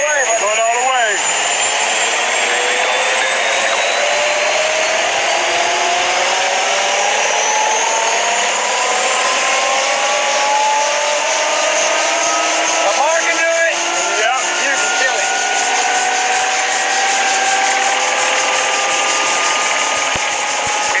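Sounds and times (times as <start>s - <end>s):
helicopter turbine and rotor: 0.0s - 21.0s.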